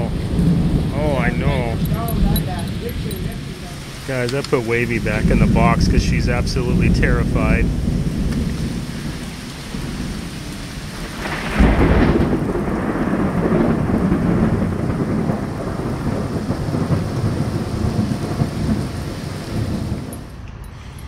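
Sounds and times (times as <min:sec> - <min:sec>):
heavy rain pouring: 0:00.0 - 0:20.4
rolling thunder: 0:00.0 - 0:20.4.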